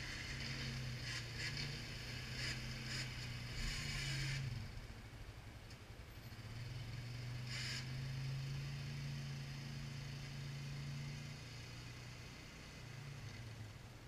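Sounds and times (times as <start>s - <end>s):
utility vehicle engine hum: 0.0s - 14.0s.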